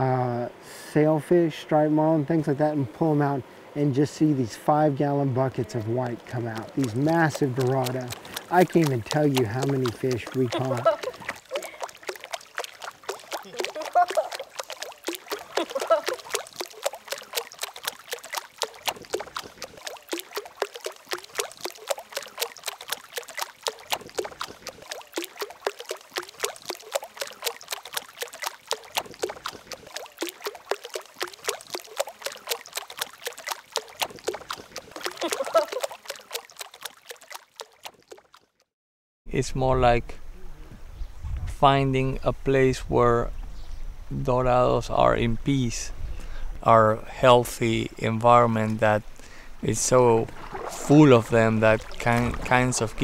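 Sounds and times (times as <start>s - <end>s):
water trickling and lapping: 2.0s - 38.7s, 43.5s - 53.0s.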